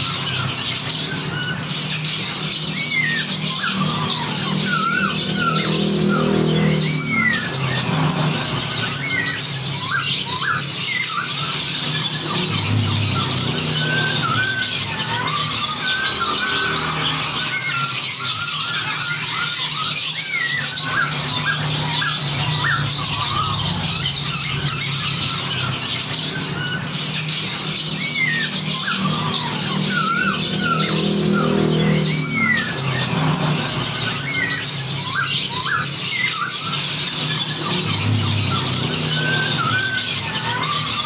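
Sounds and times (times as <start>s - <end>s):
songbirds chorus: 0.0s - 41.0s
whistled bird notes: 0.0s - 41.0s.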